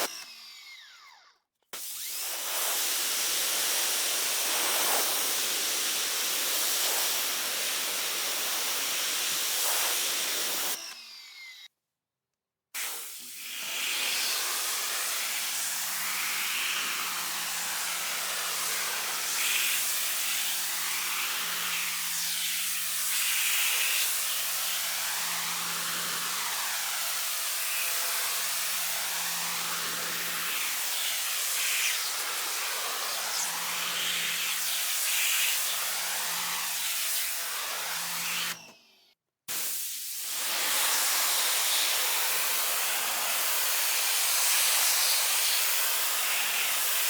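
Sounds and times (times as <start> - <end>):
pressure washer water jet hiss: 1.8 - 10.8, 12.8 - 29.4, 30.0 - 38.6, 39.5 - 47.0.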